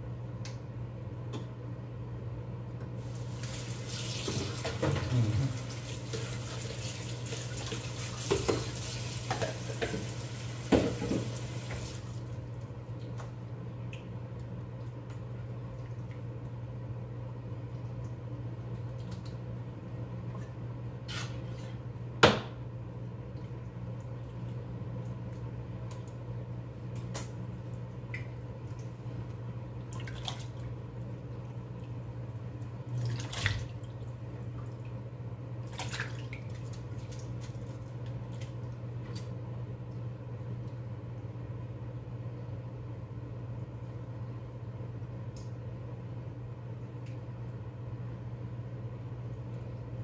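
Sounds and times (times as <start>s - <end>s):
steady low hum: 0.0s - 8.2s, 11.4s - 50.0s.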